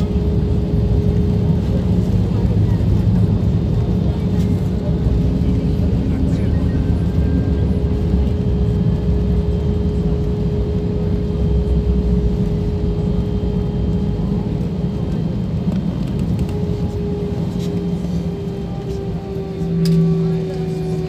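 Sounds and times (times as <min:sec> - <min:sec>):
airliner engine and runway rumble: 0:00.0 - 0:21.0
steady cabin hum: 0:00.0 - 0:21.0.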